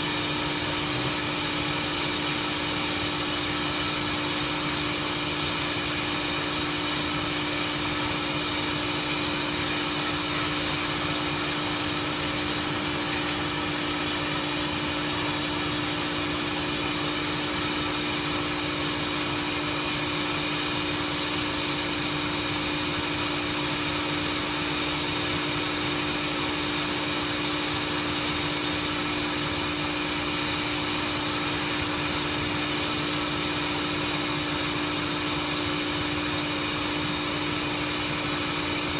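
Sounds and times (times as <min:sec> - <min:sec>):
welding machine humming: 0:00.0 - 0:38.9.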